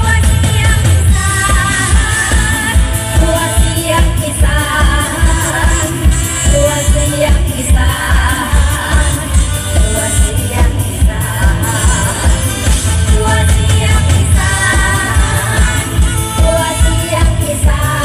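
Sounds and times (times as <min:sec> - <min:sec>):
person singing over band: 0:00.0 - 0:18.0.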